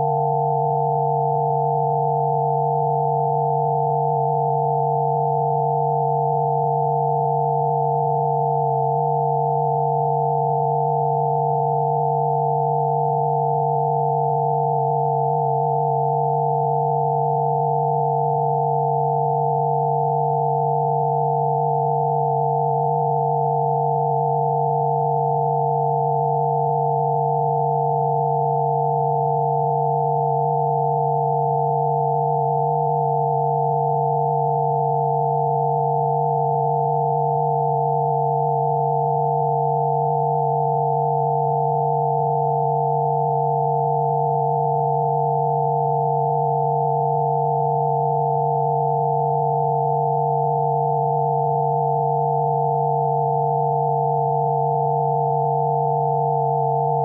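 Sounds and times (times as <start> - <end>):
steady electronic sine tones: 0.0 - 57.0.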